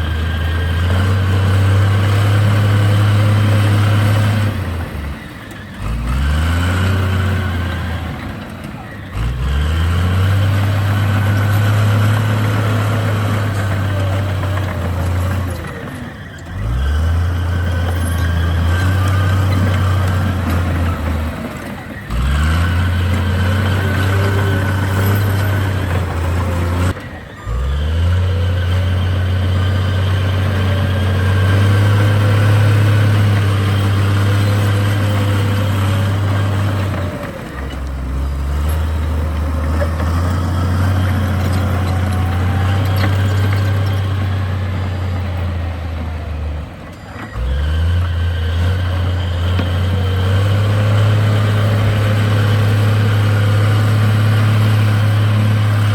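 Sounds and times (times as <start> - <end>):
heavy diesel engine under load: 0.0 - 55.9.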